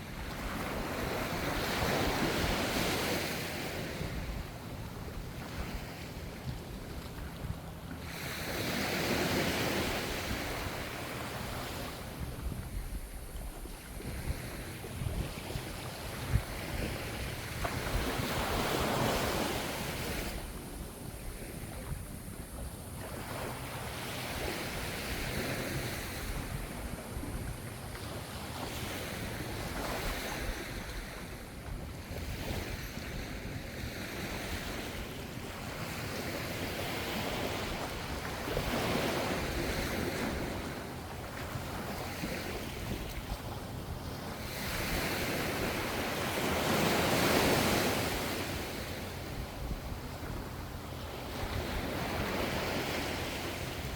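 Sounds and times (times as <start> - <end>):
ocean waves breaking: 0.0 - 53.9
wind rumbling on microphone: 0.0 - 53.9.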